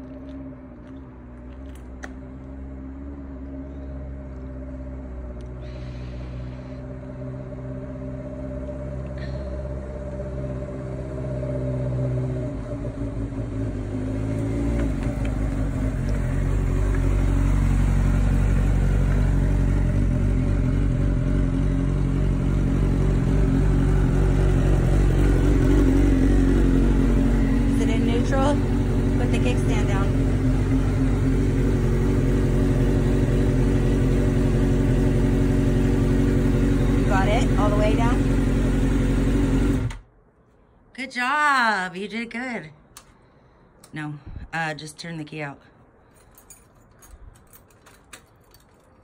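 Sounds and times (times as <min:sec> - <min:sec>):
motorcycle engine approaching: 0:00.0 - 0:40.1.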